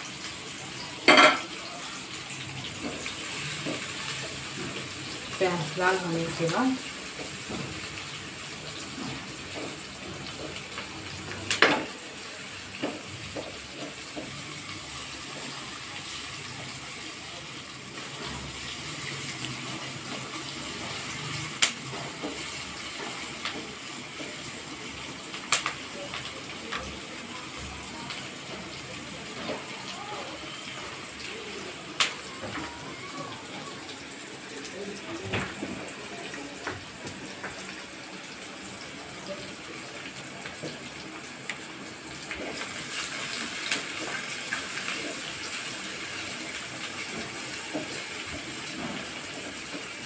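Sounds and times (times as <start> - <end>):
onions sizzling in oil: 0.0 - 50.0.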